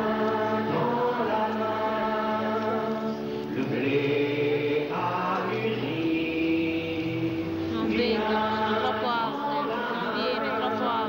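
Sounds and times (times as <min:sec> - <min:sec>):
choir singing a slow hymn: 0:00.0 - 0:11.0.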